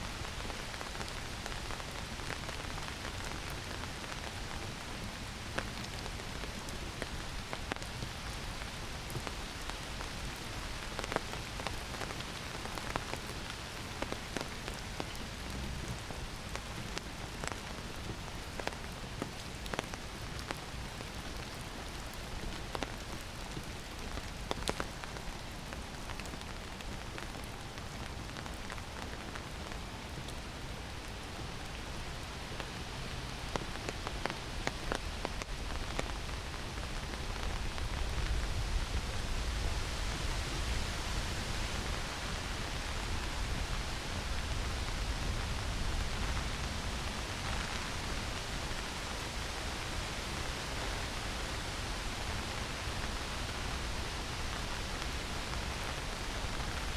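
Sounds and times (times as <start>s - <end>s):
rain hissing in a forest: 0.0s - 56.9s.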